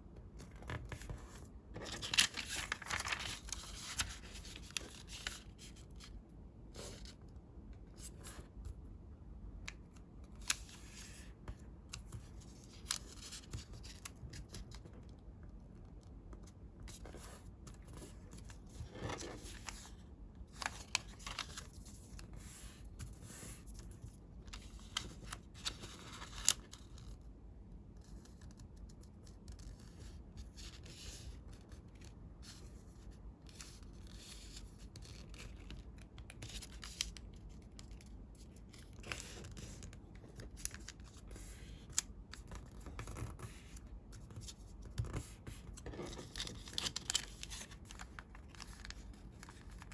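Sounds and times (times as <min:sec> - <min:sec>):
paper being folded and creased: 0:00.4 - 0:06.1, 0:09.7 - 0:14.9, 0:16.9 - 0:27.2, 0:28.0 - 0:49.9.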